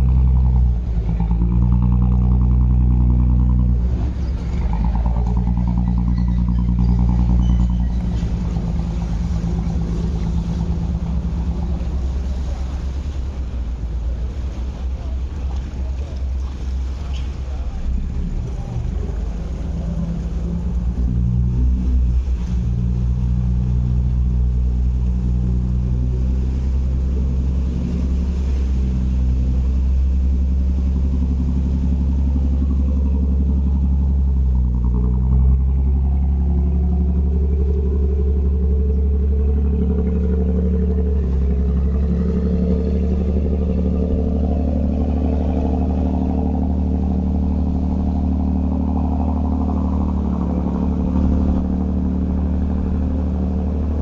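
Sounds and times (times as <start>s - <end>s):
boat diesel engine rumbling: 0.0s - 54.0s.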